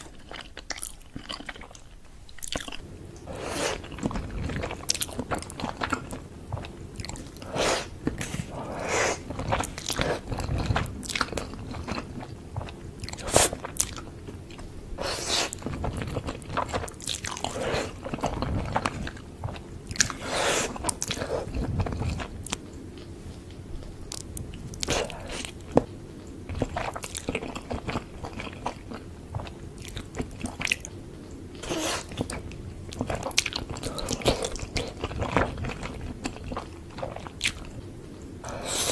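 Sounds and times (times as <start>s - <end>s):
chewing noodles: 0.0s - 38.9s
wet mouth sounds: 0.0s - 38.9s.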